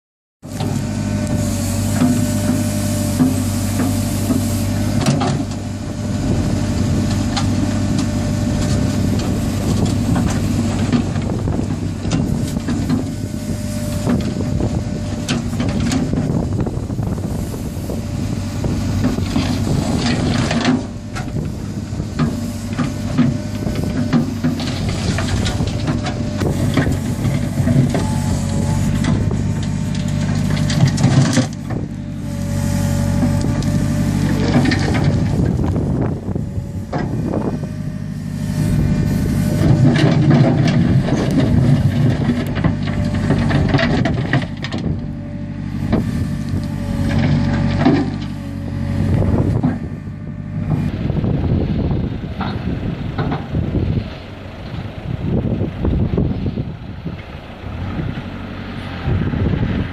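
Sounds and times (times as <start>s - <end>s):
diesel engine running under load: 0.4s - 59.9s.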